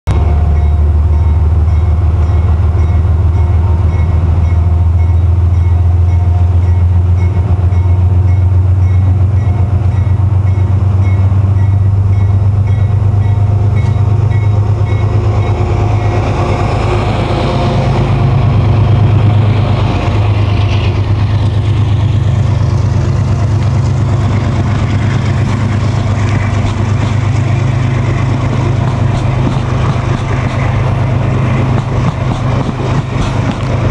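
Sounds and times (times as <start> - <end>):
diesel locomotive engine drone: 0.0 - 33.9
wheels rushing on rails: 0.1 - 33.9.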